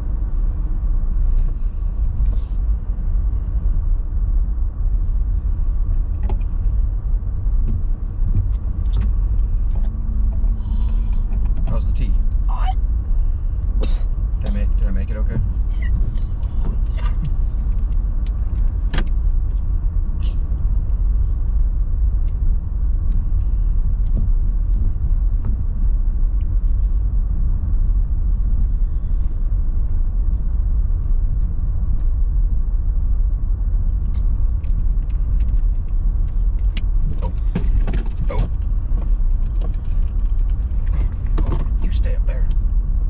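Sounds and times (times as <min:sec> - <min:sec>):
car road rumble inside cabin: 0:00.0 - 0:43.0
light rattles and clicks: 0:05.4 - 0:12.5, 0:13.5 - 0:28.8, 0:29.8 - 0:43.0.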